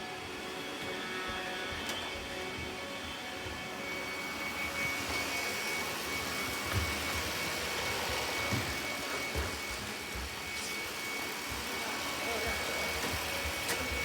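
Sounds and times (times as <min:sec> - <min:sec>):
robot vacuum motor whirring: 0:00.2 - 0:14.0.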